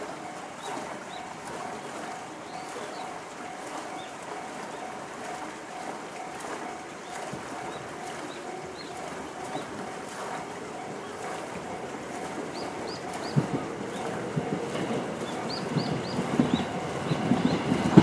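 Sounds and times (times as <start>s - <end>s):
level crossing warning bell: 0.0s - 18.0s.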